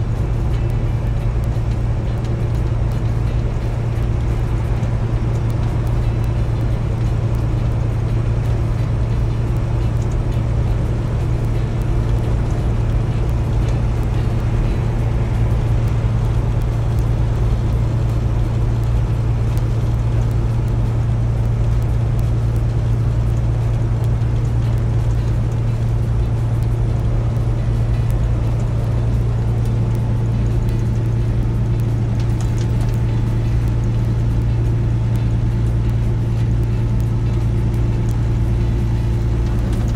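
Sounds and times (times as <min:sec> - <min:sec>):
diesel engine drone: 0:00.0 - 0:39.9
tyre and road noise: 0:00.0 - 0:39.9.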